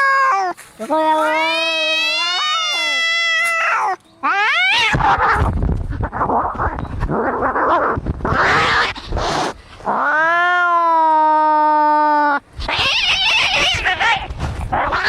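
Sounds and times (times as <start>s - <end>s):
cat yowling: 0.0s - 5.5s, 7.2s - 15.0s
cats growling and hissing: 0.0s - 15.0s.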